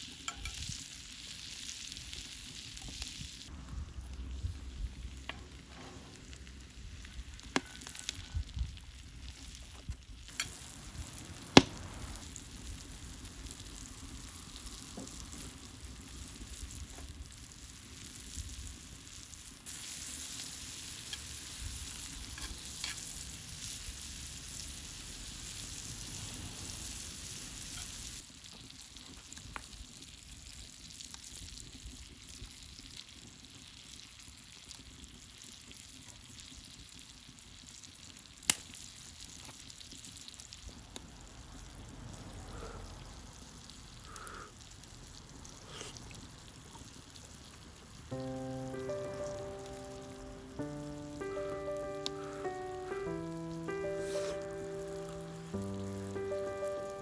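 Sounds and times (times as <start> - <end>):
food sizzling on hot plate: 0.0 - 57.0.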